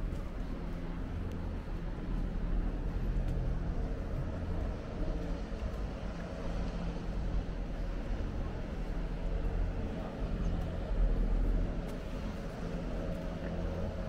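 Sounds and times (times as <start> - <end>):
city street noise: 0.0 - 14.0
vehicle engine rumble: 0.0 - 14.0.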